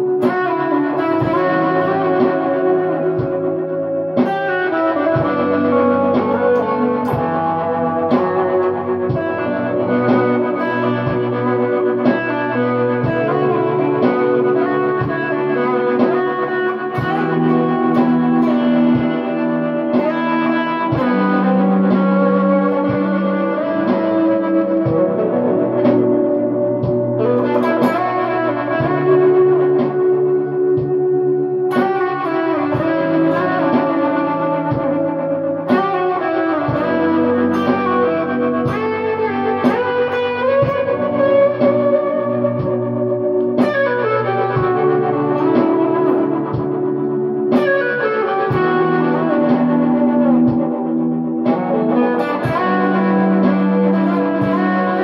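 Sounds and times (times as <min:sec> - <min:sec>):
electric guitar with reverb and delay: 0:00.0 - 0:55.0.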